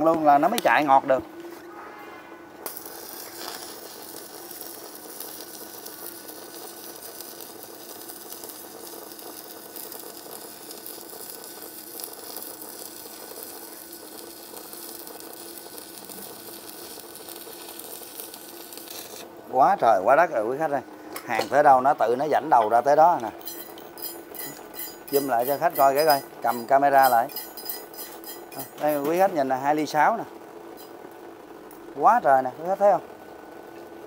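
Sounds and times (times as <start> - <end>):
welding arc crackling: 2.6 - 20.8, 21.4 - 32.9.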